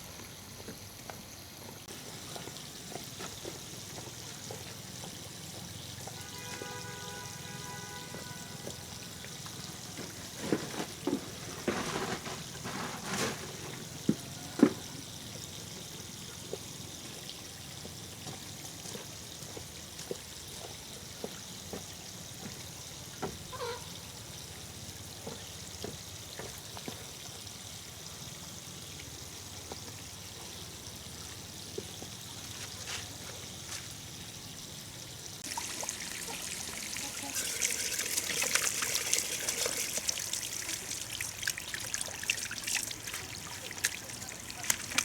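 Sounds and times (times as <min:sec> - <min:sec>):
water trickling and splashing: 0:00.0 - 0:45.0.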